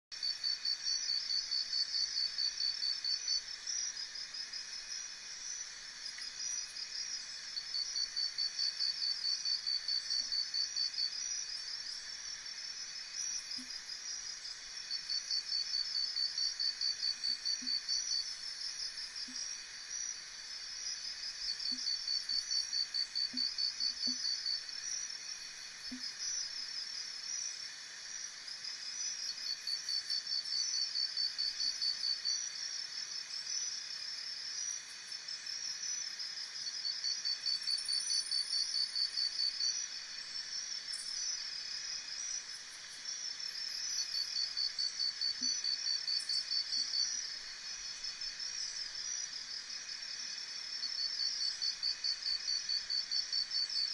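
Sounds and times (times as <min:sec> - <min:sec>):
insects chirping trills: 0:00.2 - 0:53.9.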